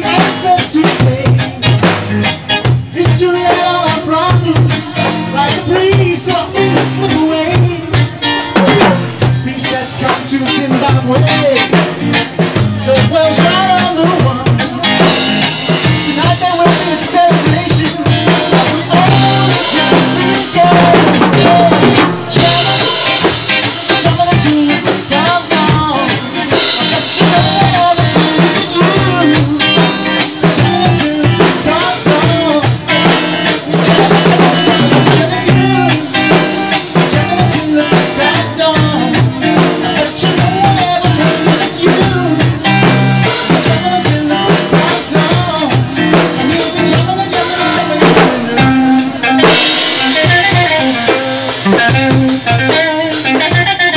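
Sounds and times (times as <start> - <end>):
drum kit beat: 0.0 - 53.9
electric guitar: 0.0 - 53.9.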